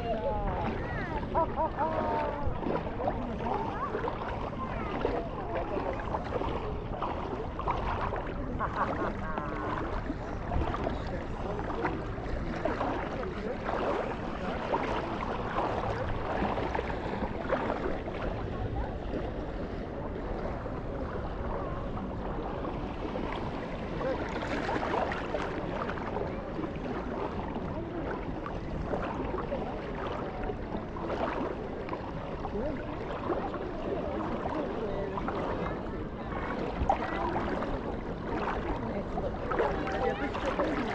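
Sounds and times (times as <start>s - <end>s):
crowd voices mingling: 0.0s - 40.9s
wind: 0.0s - 40.9s.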